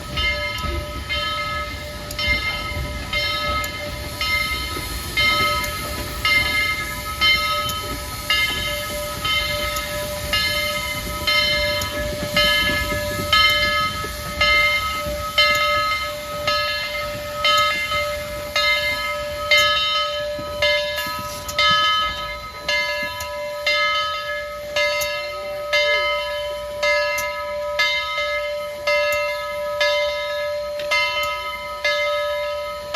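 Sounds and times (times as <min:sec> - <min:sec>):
locomotive bell ringing: 0:00.0 - 0:32.9.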